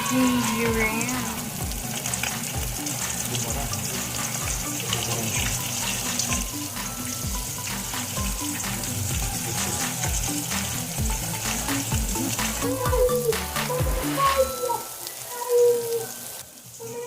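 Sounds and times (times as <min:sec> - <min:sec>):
background music: 0:00.0 - 0:16.7
chicken frying in hot oil: 0:00.0 - 0:17.0.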